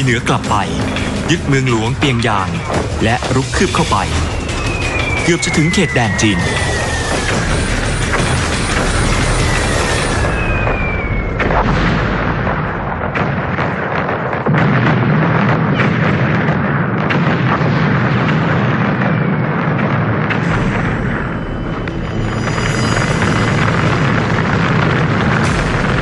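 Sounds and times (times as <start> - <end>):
artillery fire and explosions: 0.0 - 26.0
dense battle rumble: 0.0 - 26.0.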